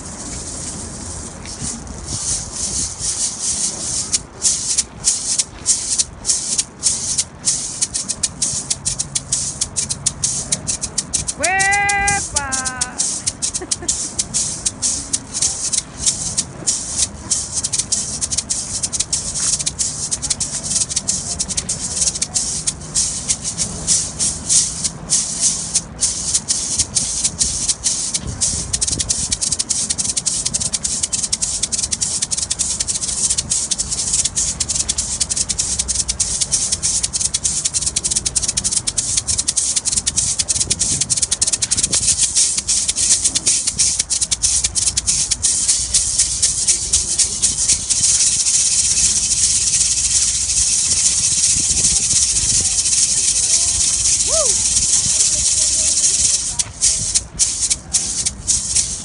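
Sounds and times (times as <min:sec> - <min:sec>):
maracas shaken fast: 0:00.0 - 0:59.0.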